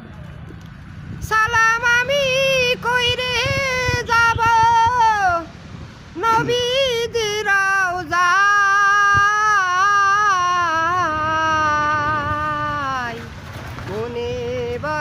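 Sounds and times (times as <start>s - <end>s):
high voice singing with vibrato: 1.2s - 13.3s, 13.9s - 15.0s.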